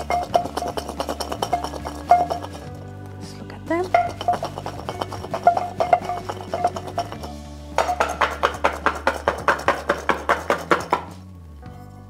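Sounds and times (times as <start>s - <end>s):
garlic rattling in glass jar: 0.0s - 2.8s, 3.8s - 11.2s
soft background music: 0.0s - 12.0s.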